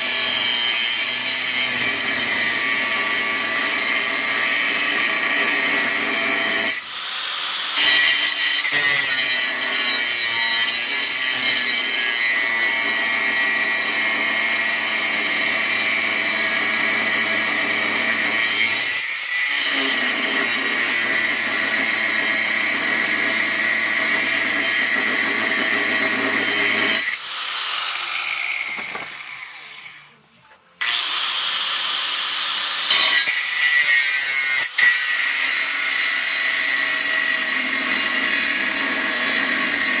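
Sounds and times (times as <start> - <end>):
power tool cutting steel: 0.0 - 30.2, 30.8 - 40.0.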